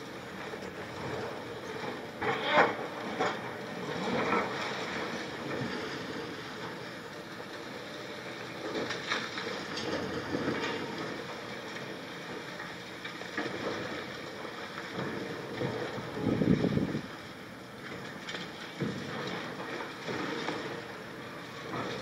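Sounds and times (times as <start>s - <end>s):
machine rumble: 0.0s - 22.0s.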